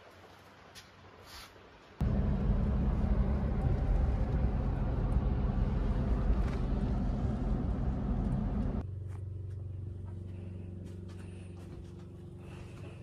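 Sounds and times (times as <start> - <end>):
vehicle engine and road rumble: 1.9 - 13.0.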